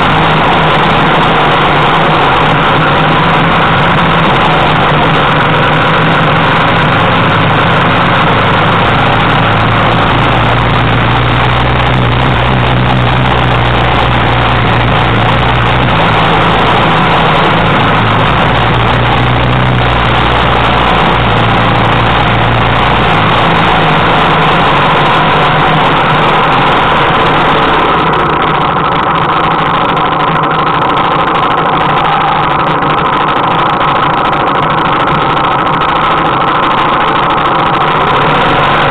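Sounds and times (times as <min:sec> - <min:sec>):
motorcycle engines running: 0:00.0 - 0:38.9.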